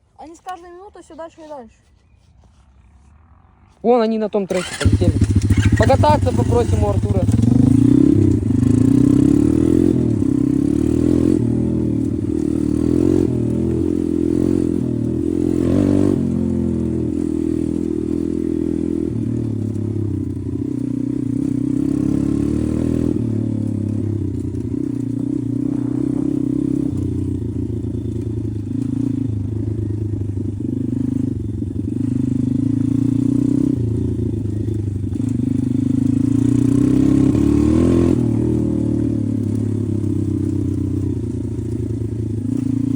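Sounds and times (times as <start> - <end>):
motorbike engine revving: 4.4 - 42.9.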